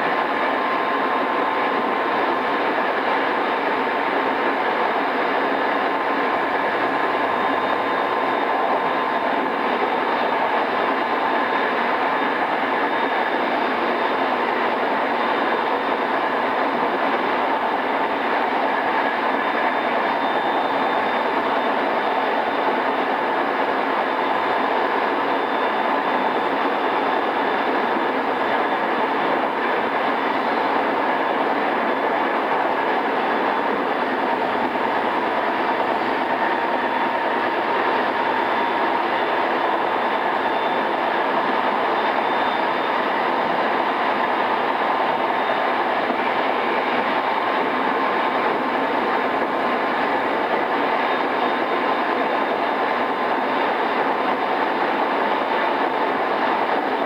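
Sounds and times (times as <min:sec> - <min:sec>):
faint steady whine: 0:00.0 - 0:57.0
train wheel and rail rumble: 0:00.0 - 0:57.0.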